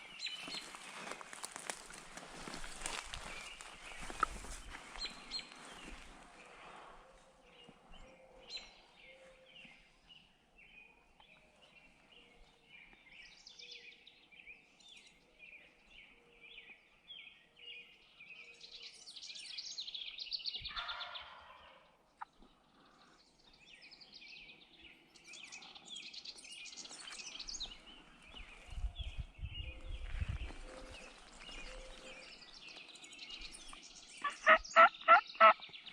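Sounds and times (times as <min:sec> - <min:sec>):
songbirds chirping and singing: 0:00.0 - 0:35.9.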